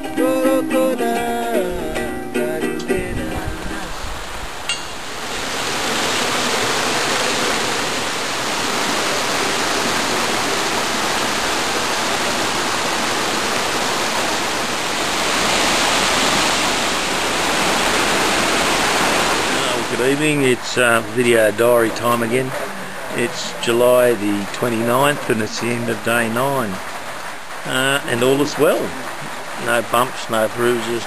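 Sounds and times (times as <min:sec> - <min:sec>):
rushing creek water: 0:00.0 - 0:31.0.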